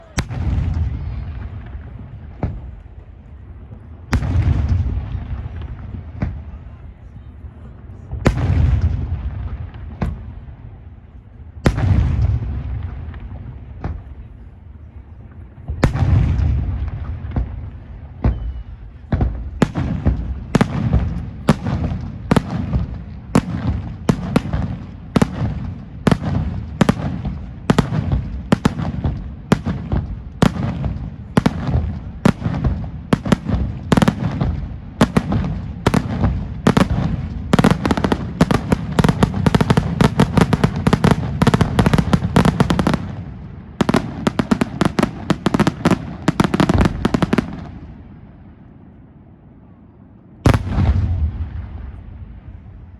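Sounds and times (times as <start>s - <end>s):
sharp firework bangs: 0.0s - 2.9s, 4.1s - 6.6s, 8.2s - 10.5s, 11.6s - 14.2s, 15.6s - 48.0s, 50.4s - 52.4s.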